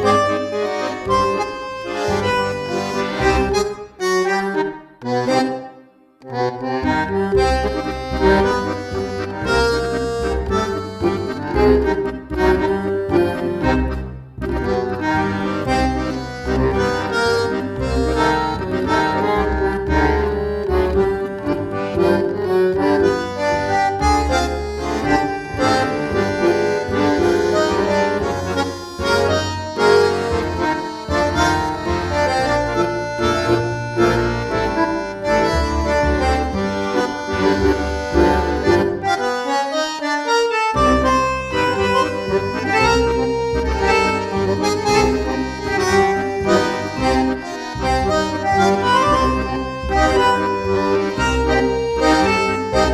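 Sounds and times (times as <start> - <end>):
accordion dance music: 0.0 - 52.9.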